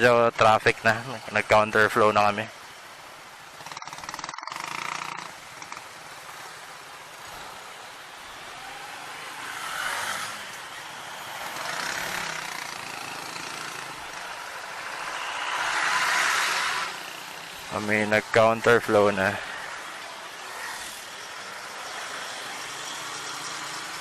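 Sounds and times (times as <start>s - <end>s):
surrounding traffic: 0.0s - 24.0s.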